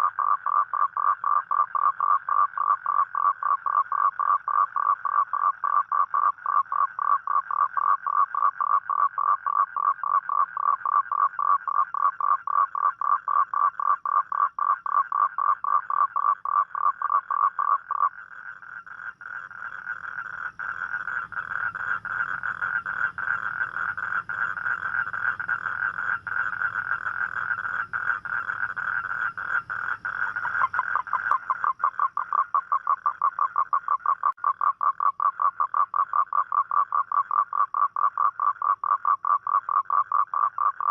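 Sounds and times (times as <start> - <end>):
toad calling trill: 0.0 - 40.9.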